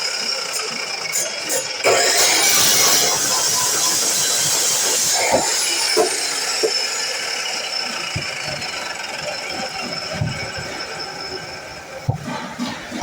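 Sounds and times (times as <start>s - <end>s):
miter saw motor winding down: 0.0s - 12.0s.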